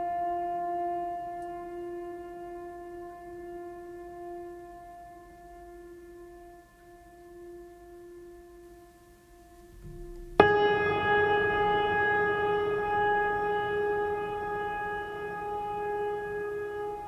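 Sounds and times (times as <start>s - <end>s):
sustained wind instrument tones: 0.0s - 17.0s.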